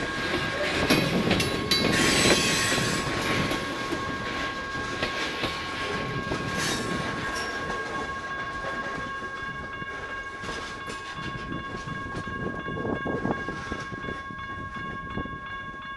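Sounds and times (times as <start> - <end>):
freight train rumbling: 0.0 - 15.9
steady high-pitched tones: 0.0 - 15.9.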